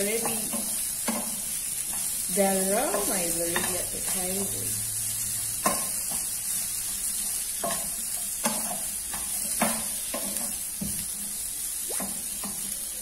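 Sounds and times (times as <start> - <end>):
spatula scraping a pan: 0.0 - 12.8
vegetables sizzling in hot oil: 0.0 - 13.0.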